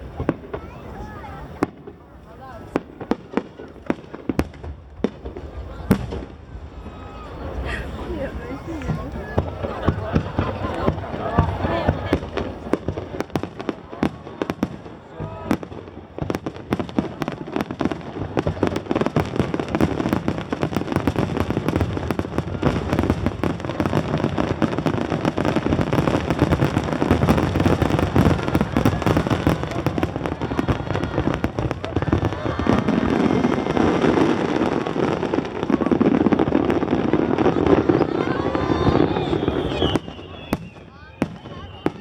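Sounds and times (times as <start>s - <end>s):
fireworks bursts and crackling: 0.0s - 42.0s.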